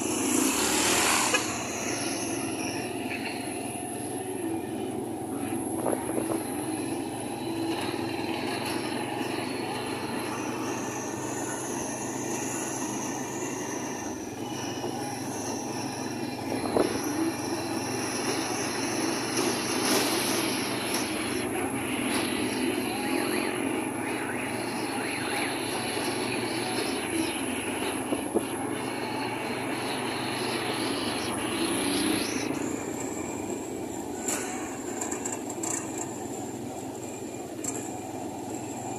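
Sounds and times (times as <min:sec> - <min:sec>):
motorcycles running close by: 0:00.0 - 0:36.6
road noise: 0:00.0 - 0:38.9
vehicle engine: 0:00.0 - 0:38.9.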